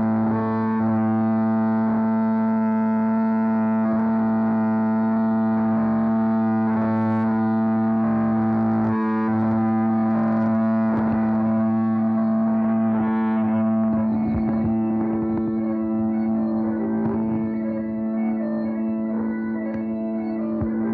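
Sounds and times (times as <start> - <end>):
bagpipes playing: 0.0 - 20.9
electronic feedback and distortion: 0.0 - 20.9.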